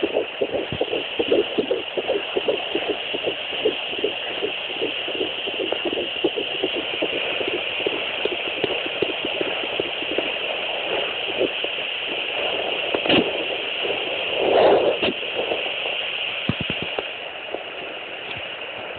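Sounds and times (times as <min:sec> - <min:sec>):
fetal heartbeat whooshing pulses: 0:00.0 - 0:18.9
steady hiss: 0:00.0 - 0:18.9.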